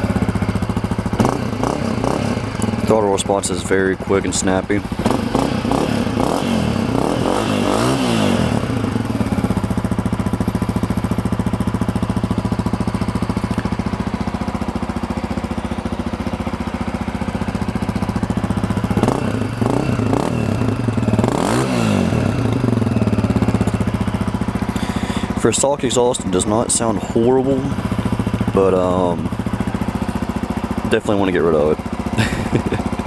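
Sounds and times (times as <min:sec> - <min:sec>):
motorcycle engine idling: 0:00.0 - 0:33.0
motorcycle engine revving: 0:00.0 - 0:33.0.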